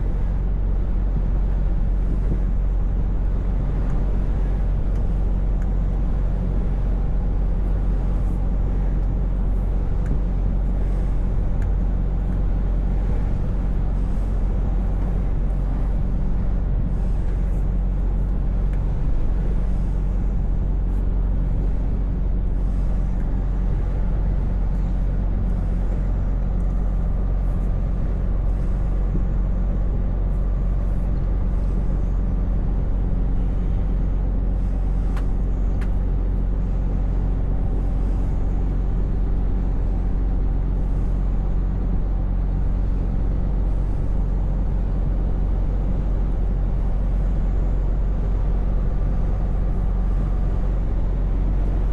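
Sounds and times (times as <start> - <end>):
road noise: 0.0 - 51.9
truck engine droning: 0.0 - 51.9.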